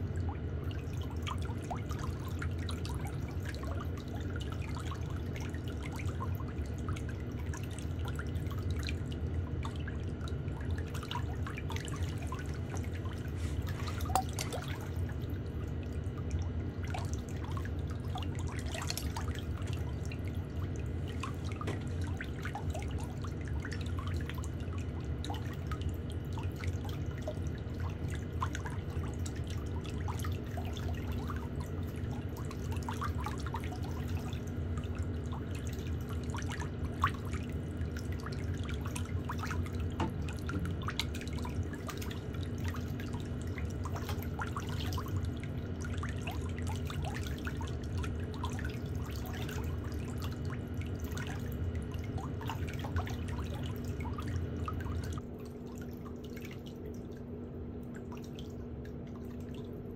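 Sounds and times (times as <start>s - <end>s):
steady low hum: 0.0s - 59.9s
water dripping: 0.0s - 59.9s.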